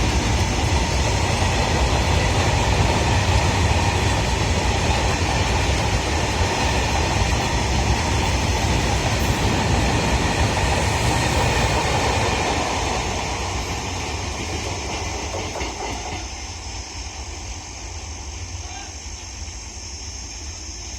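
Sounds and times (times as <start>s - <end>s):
freight train rumbling on rails: 0.0s - 20.9s.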